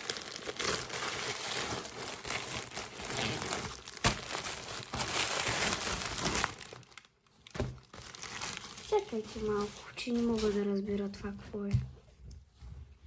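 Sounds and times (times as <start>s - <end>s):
packaging crinkling and rustling: 0.0s - 11.7s.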